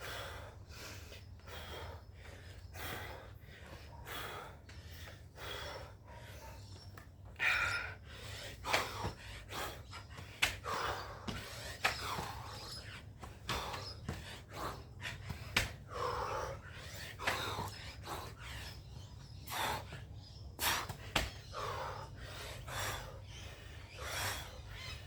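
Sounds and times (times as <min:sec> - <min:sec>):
person panting hard: 0:00.0 - 0:25.0.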